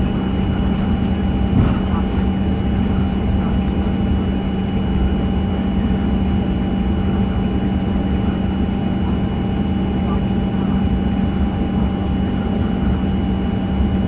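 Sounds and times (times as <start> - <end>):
airplane cabin drone: 0.0 - 14.0
faint jet engine whine: 0.0 - 14.0.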